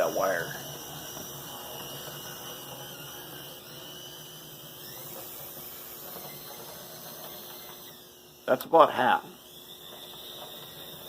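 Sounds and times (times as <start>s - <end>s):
model locomotive motor whine: 0.0s - 11.0s.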